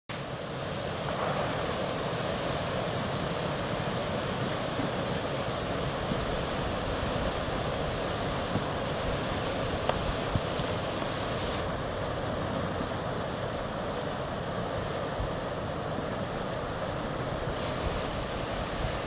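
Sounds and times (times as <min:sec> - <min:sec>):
creek water rushing with ice: 0:00.1 - 0:19.0.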